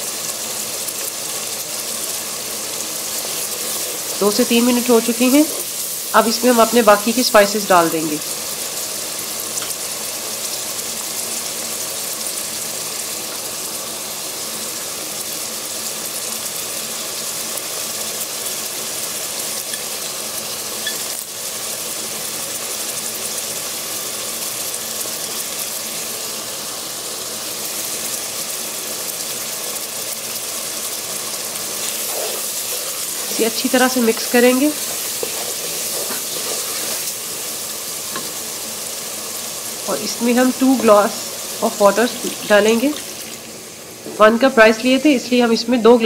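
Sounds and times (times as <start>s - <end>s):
food sizzling in a pot: 0.0s - 46.0s.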